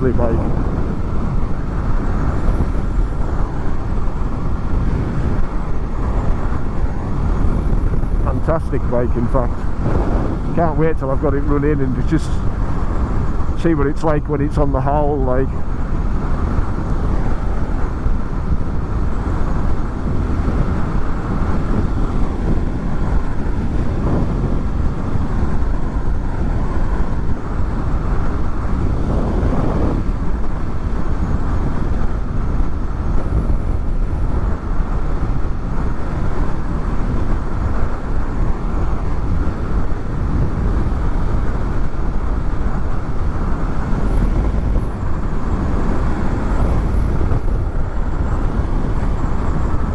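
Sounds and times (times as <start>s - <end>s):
wind and road noise: 0.0s - 49.9s.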